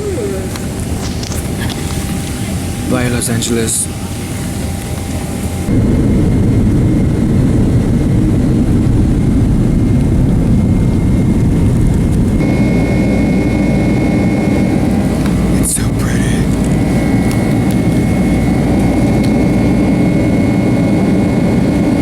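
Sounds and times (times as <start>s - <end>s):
faint high whine: 0.0s - 22.0s
jet engine cabin rumble: 0.0s - 22.0s.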